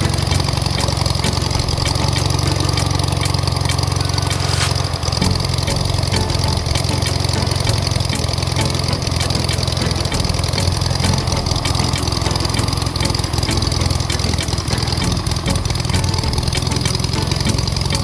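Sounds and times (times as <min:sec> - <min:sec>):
aircraft piston engine idling: 0:00.0 - 0:18.0.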